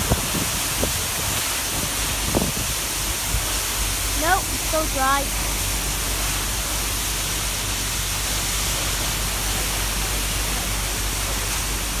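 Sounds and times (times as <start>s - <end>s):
waterfall roaring onto rocks: 0.0s - 12.0s.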